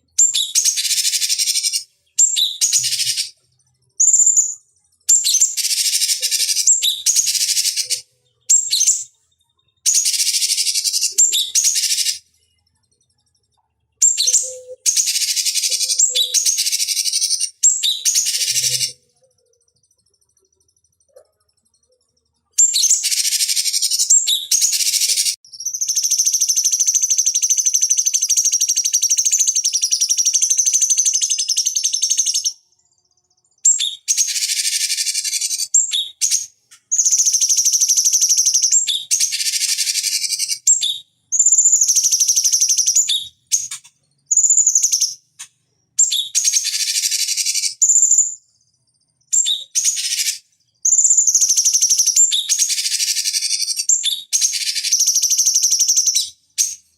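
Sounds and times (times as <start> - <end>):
bird buzzy chattering song: 0.0 - 12.6, 13.3 - 56.9.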